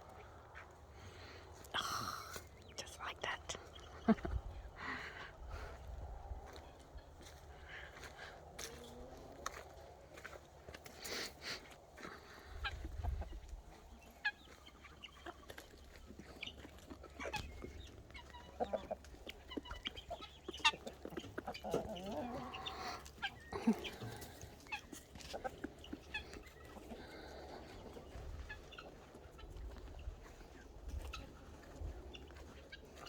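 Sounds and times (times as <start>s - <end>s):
hens clucking: 0.0s - 33.0s.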